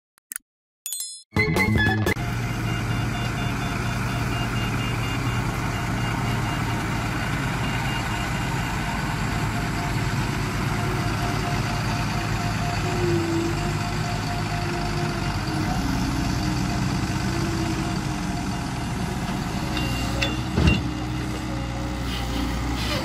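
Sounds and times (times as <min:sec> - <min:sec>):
diesel engine running: 0:02.1 - 0:23.0
reversing alarm beeping: 0:02.2 - 0:21.2.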